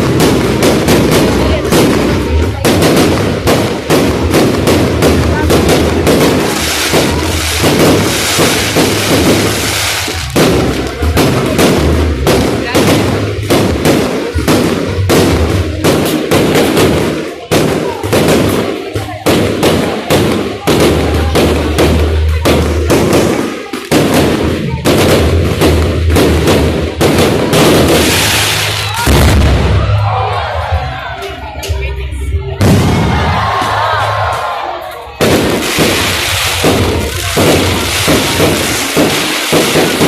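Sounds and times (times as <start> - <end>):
fireworks exploding: 0.0 - 30.2, 32.4 - 40.0.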